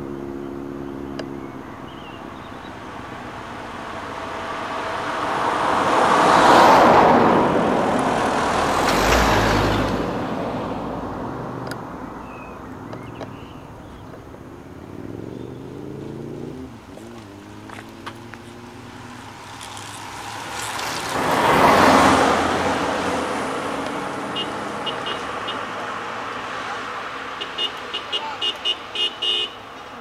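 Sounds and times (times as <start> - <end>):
vehicle rushing past: 0.0 - 12.8, 13.6 - 27.4
car engine passing: 0.0 - 27.8.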